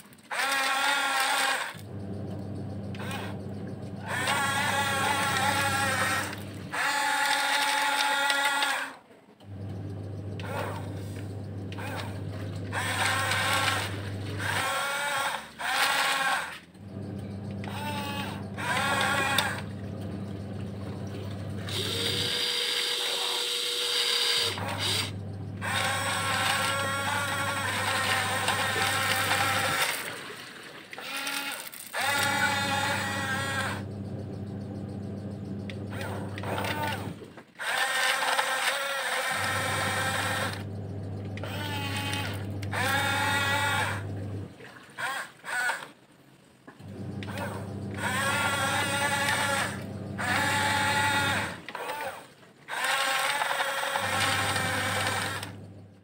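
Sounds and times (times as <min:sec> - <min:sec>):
toy bulldozer motors whining: 0:00.0 - 0:46.0, 0:46.8 - 0:56.0.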